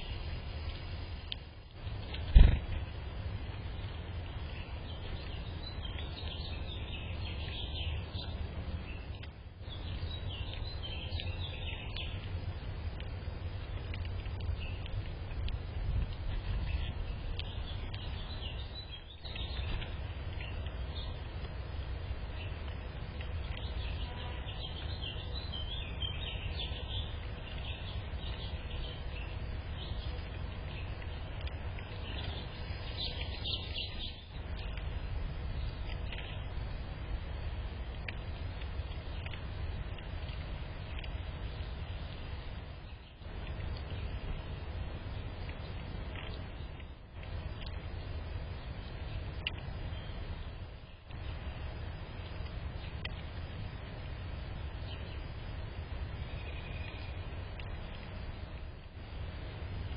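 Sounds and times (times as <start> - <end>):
low background rumble: 0.0 - 59.9
small birds chirping: 0.0 - 59.9.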